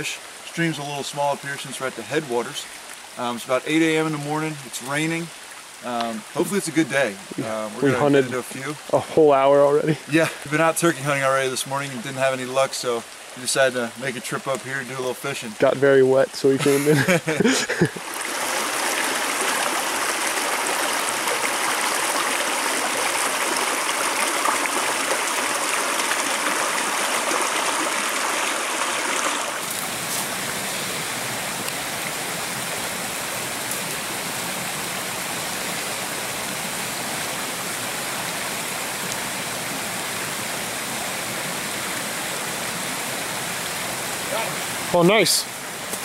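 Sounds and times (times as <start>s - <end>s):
stream rushing over stones: 0.0s - 46.0s.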